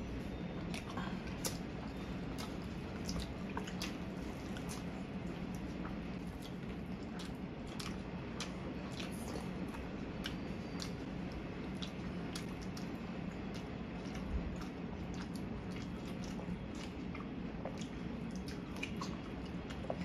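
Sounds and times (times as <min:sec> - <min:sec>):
steady low hum: 0:00.0 - 0:20.0
chewing with wet mouth clicks: 0:00.1 - 0:20.0.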